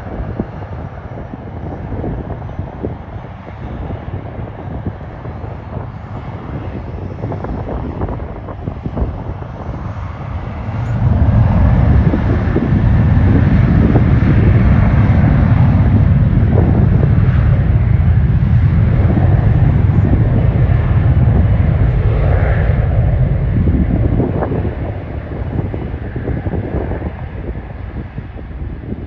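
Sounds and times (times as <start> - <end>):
jet engines rumbling: 0.0 - 29.0
wind buffeting microphone: 0.0 - 29.0.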